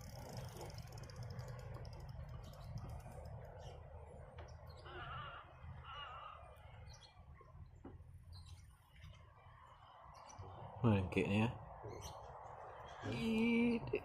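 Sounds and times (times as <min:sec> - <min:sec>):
faint bird chirping: 0:00.3 - 0:13.9.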